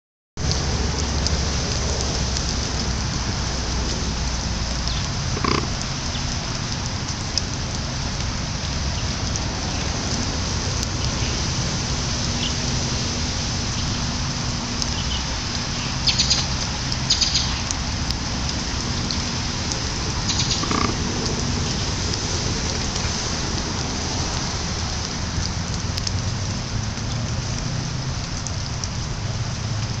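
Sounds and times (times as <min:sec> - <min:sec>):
light rain hissing: 0:00.4 - 0:30.0.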